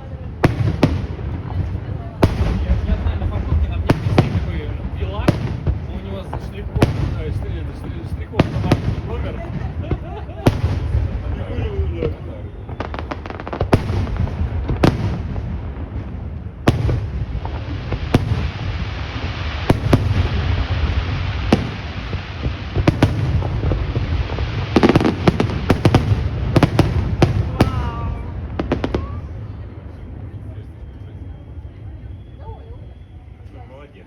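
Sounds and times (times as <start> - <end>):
fireworks bangs: 0.0 - 30.6.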